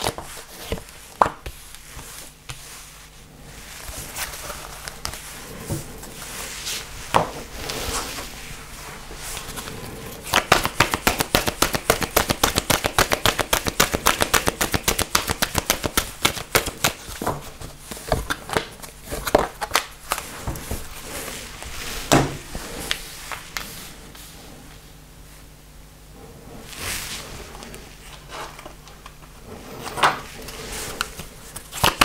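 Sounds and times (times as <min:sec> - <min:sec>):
cards being shuffled by hand: 0:00.0 - 0:24.8, 0:26.7 - 0:32.0.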